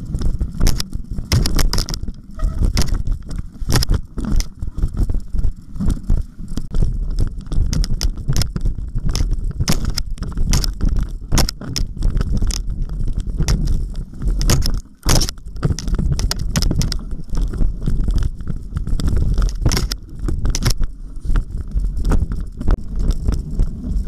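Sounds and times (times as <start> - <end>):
bike rattling and clacking: 0.0 - 24.0
bike rolling rumble: 0.0 - 24.0.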